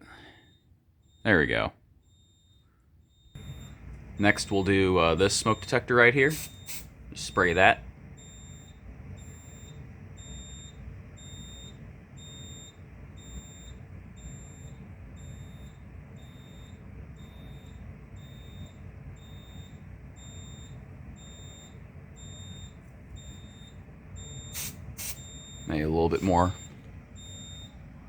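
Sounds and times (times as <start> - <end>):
low room rumble: 0.0 - 28.0
high-pitched alarm beeps: 0.1 - 27.9.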